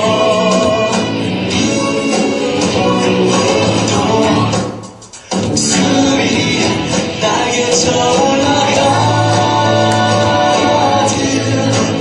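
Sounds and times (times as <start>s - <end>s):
worship song with band: 0.0s - 12.0s.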